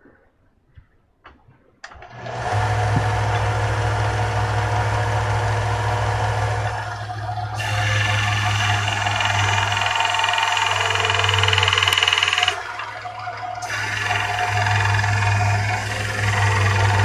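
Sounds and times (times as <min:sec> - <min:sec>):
workshop machine motor hum: 0:02.0 - 0:17.0.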